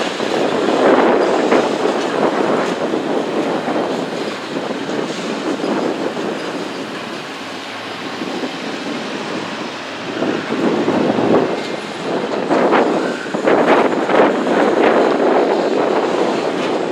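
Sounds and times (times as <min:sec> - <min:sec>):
freight train wheels rumbling: 0:00.0 - 0:16.9.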